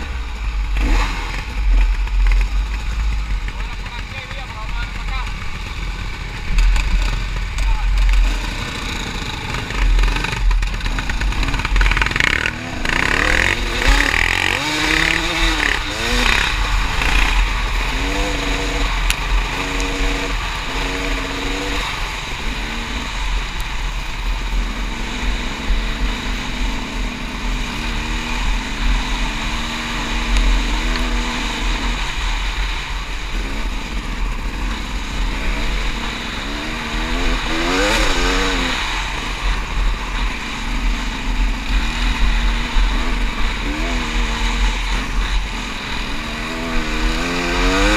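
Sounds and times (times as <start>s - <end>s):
atv engine revving: 0.0s - 47.9s
other quad engines: 0.0s - 47.9s.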